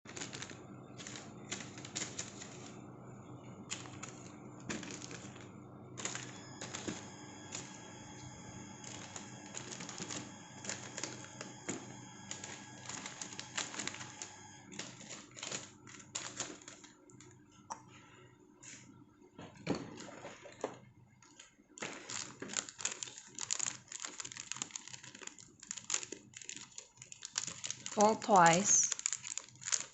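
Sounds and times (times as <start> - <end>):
packaging crinkling: 0.1 - 2.8, 3.6 - 17.3, 21.2 - 29.9
faint steady hum: 0.1 - 29.9.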